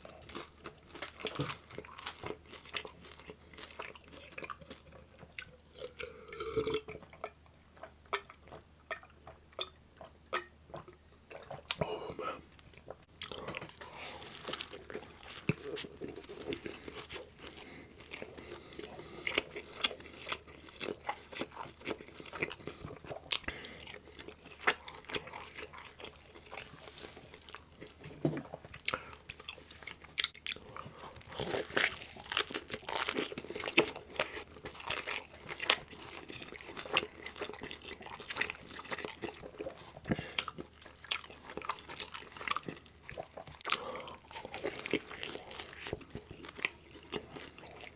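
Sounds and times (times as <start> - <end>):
person chewing crunchy food: 0.0 - 47.9.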